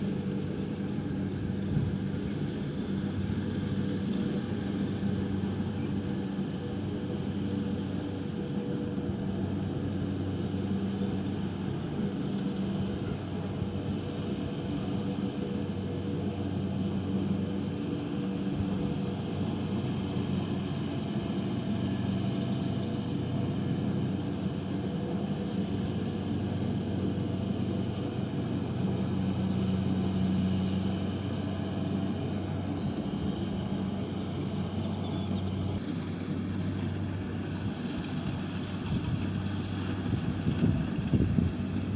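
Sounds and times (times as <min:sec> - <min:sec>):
harvester engine running: 0:00.0 - 0:41.9.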